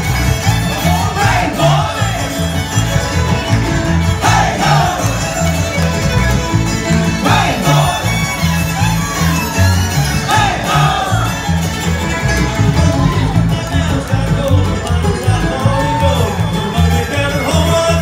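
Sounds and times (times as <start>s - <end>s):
banjo: 0.0s - 18.0s
fiddle: 0.0s - 18.0s
strummed acoustic guitar: 0.0s - 18.0s
upright bass: 0.0s - 18.0s.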